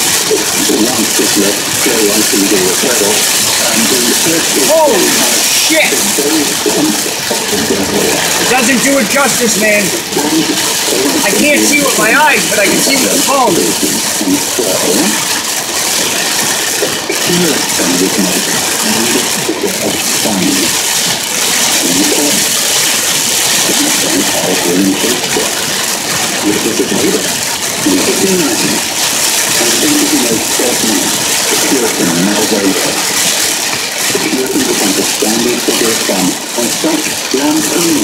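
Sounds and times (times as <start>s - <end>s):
muffled voice: 0.0s - 20.9s, 21.5s - 22.6s, 23.6s - 28.9s, 29.5s - 38.0s
heavy rain on a moving car: 0.0s - 38.0s
tyres on flooded road: 0.0s - 38.0s.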